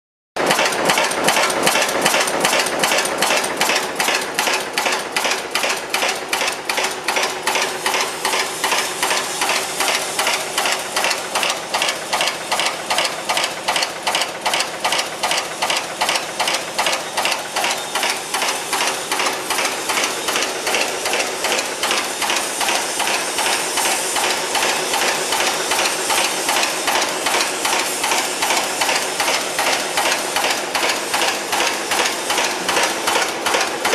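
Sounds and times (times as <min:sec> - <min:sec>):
heading machine metallic strokes: 0:01.3 - 0:33.9.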